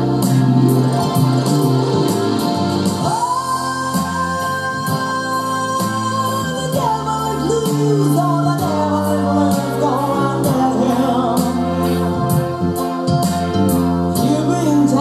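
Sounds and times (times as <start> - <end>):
pop song on a stereo: 0.0 - 15.0.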